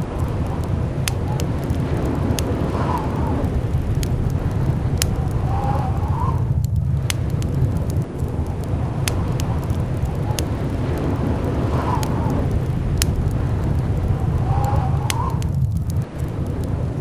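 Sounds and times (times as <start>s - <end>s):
blizzard wind rumbling: 0.0s - 17.0s
sharp crackles: 0.0s - 17.0s
whistling wind gust: 0.0s - 17.0s.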